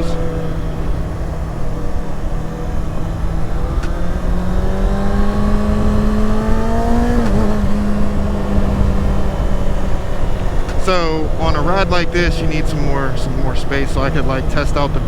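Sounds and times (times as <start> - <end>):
motorcycle engine running: 0.0 - 15.0
riding wind rush: 0.0 - 15.0.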